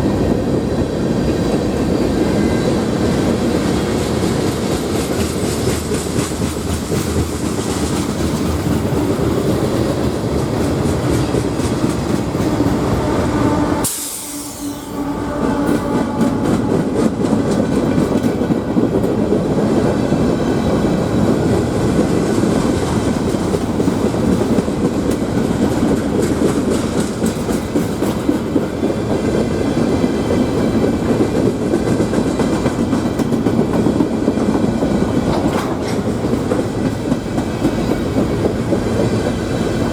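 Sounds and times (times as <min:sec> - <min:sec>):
freight train cars rumbling: 0:00.0 - 0:39.9
wheels clicking over rail joints: 0:03.2 - 0:13.1, 0:15.8 - 0:39.9.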